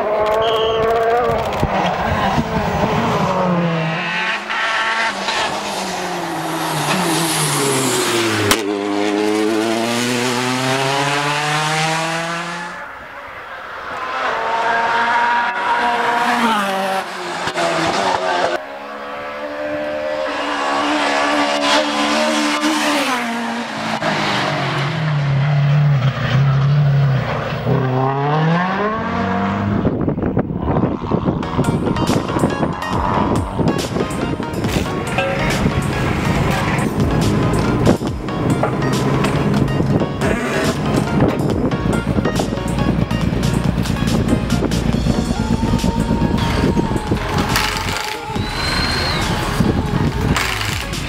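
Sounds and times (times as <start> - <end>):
rally cars passing at speed: 0.0 - 51.0.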